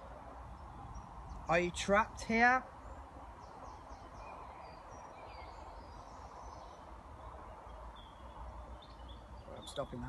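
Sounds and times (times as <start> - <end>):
background hiss: 0.0 - 10.0
birds chirping: 0.0 - 10.0.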